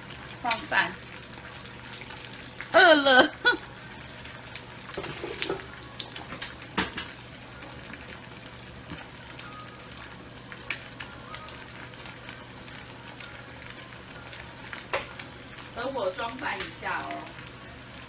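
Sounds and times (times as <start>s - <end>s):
egg sizzling in a pan: 0.0s - 18.0s.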